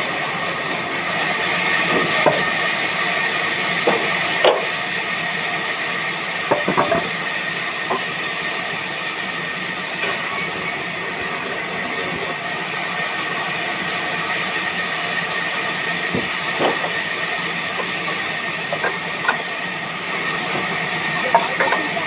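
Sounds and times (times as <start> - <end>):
woodworking machinery running: 0.0 - 22.0.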